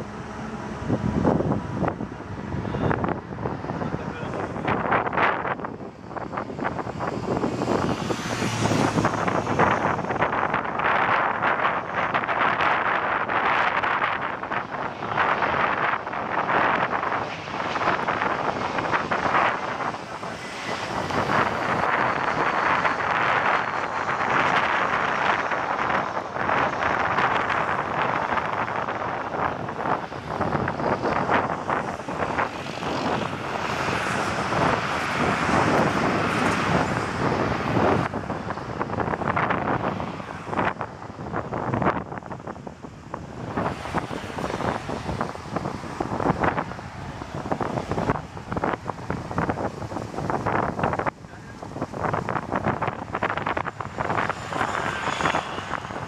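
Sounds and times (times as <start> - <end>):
airliner jet noise: 0.0 - 56.0
wind buffeting microphone: 0.0 - 56.0.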